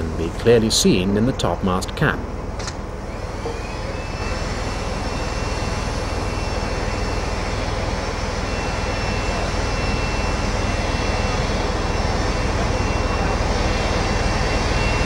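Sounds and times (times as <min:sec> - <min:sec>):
crane engine running: 0:00.0 - 0:15.0
faint high whine: 0:00.0 - 0:15.0.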